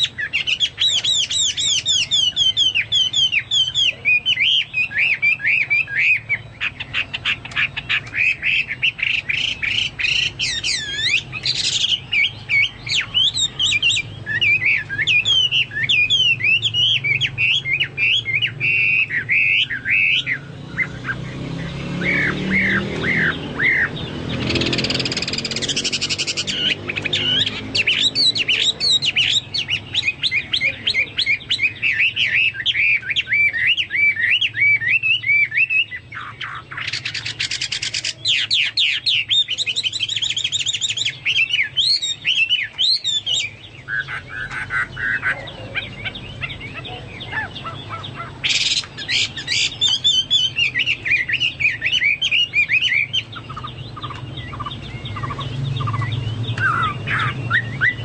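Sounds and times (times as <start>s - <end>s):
bird singing whistled phrases: 0.0s - 58.0s.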